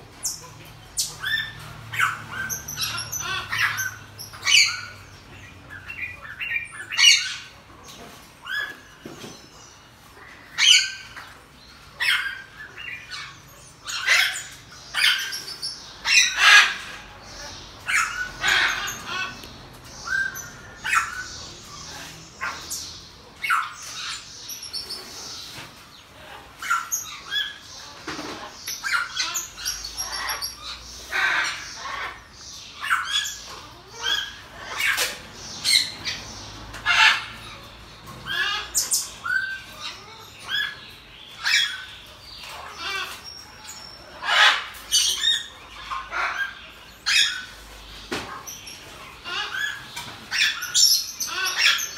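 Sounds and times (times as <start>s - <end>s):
marmosets squeaky calls: 0.2s - 7.6s, 11.9s - 25.6s, 26.6s - 47.7s, 48.4s - 51.9s.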